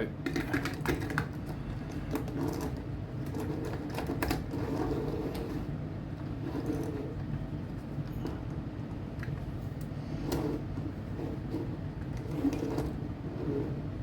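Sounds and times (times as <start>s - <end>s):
low electric hum: 0.0s - 14.0s.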